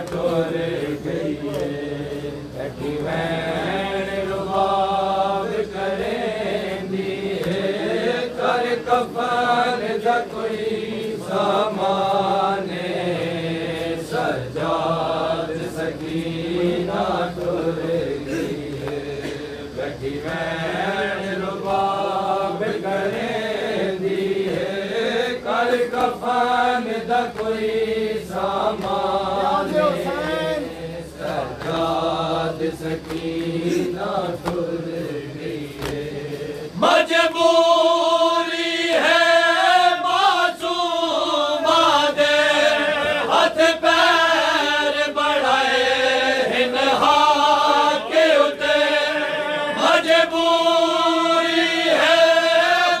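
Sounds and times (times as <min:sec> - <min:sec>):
men chanting a lament: 0:00.0 - 0:53.0.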